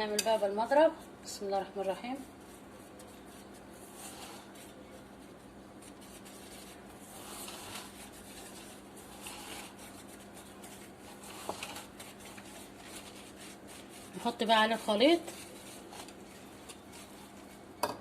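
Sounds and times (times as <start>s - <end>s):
hand whisk beating eggs: 1.8s - 17.9s.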